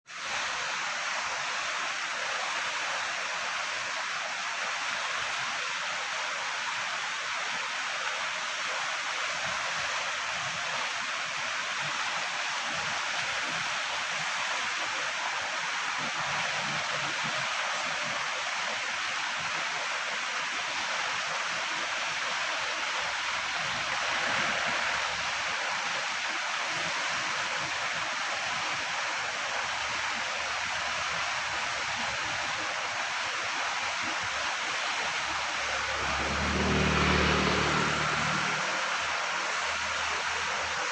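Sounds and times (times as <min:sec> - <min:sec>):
river water rushing: 0:00.1 - 0:40.9.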